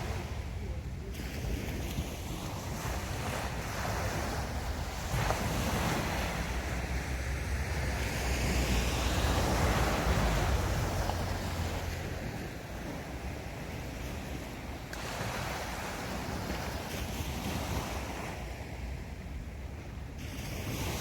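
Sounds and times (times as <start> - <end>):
sea waves breaking on sand: 0.0 - 21.0
wind buffeting microphone: 0.0 - 21.0.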